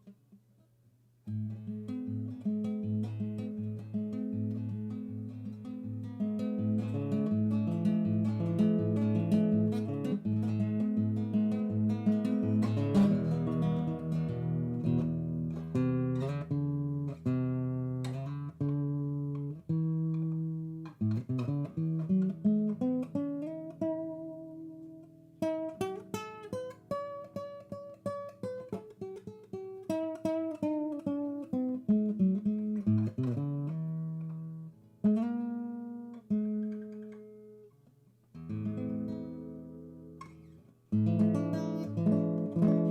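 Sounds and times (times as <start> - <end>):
acoustic guitar: 0.0 - 42.9.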